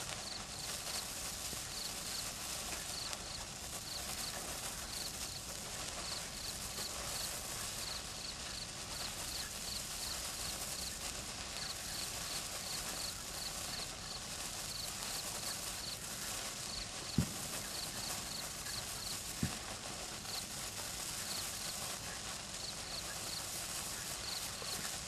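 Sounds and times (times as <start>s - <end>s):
sparkler fizzing hiss: 0.0s - 25.0s.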